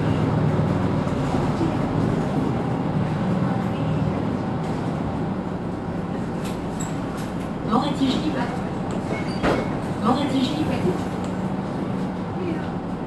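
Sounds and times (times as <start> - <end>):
bus diesel engine rumbling: 0.0 - 13.0
road noise: 0.0 - 13.0.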